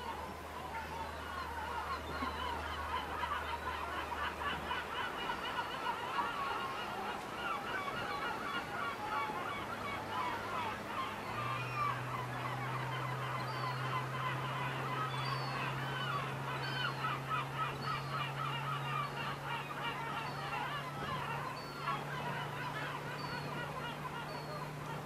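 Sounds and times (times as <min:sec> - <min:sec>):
flock of birds calling: 0:00.0 - 0:25.0.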